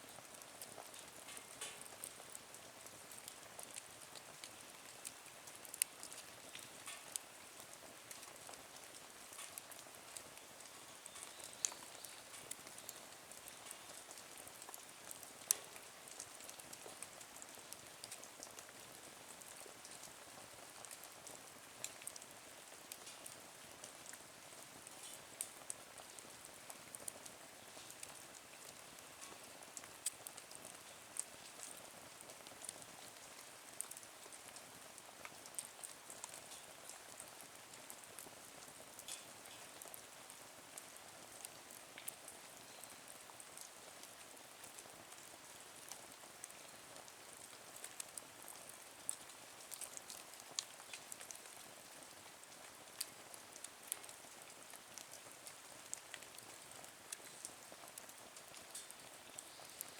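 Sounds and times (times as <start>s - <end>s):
wood fire crackling: 0.1s - 59.9s.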